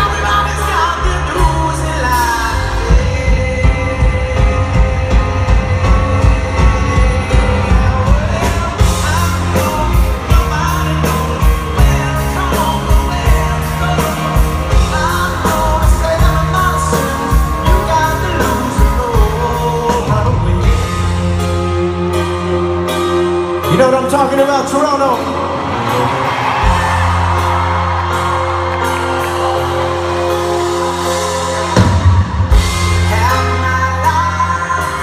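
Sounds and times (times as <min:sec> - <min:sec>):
man singing: 0:00.0 - 0:25.5, 0:31.5 - 0:35.0
live rock band: 0:00.0 - 0:35.0.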